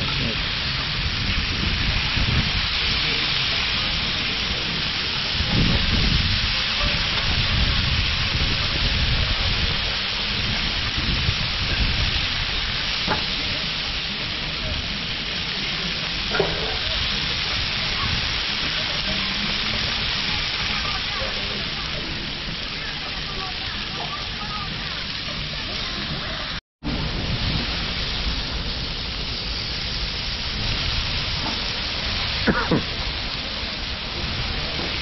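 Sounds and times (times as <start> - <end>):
chicken sizzling on griddle: 0.0 - 35.0.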